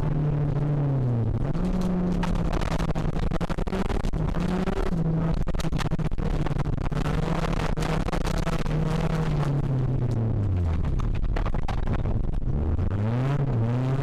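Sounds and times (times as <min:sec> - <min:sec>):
car engine at high revs: 0:00.0 - 0:14.0
gravel rattling against car: 0:00.0 - 0:14.0.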